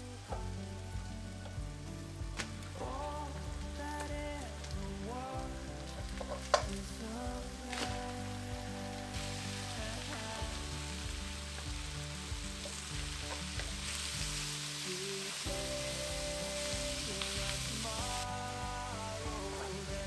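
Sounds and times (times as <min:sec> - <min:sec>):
meat sizzling in a frying pan: 0:00.0 - 0:20.0
soft background music: 0:00.0 - 0:20.0.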